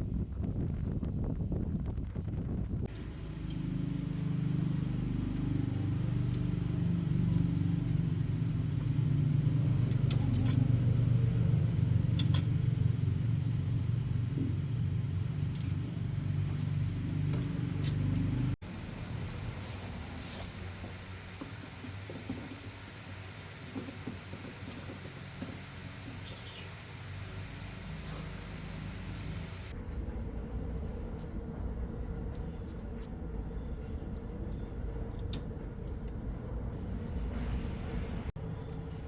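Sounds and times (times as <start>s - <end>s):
vehicle engine humming: 2.8s - 39.0s.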